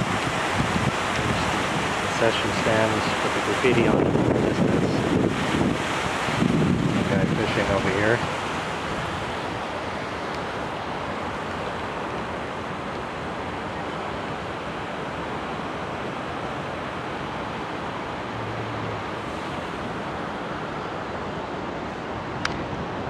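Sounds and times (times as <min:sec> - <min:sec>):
water rushing over outflow: 0:00.0 - 0:23.0.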